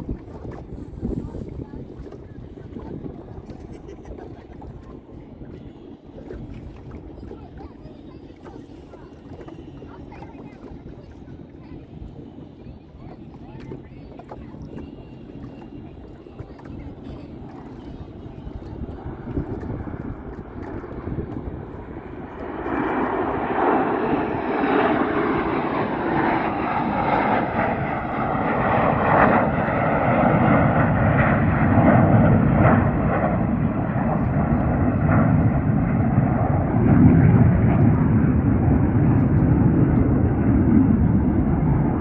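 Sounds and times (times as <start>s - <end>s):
airplane flying past: 0.0s - 42.0s.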